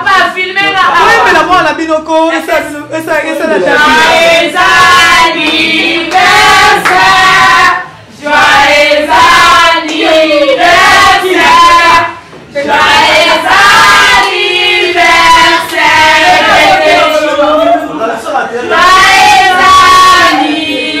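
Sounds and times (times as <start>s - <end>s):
group of voices singing: 3.5s - 21.0s.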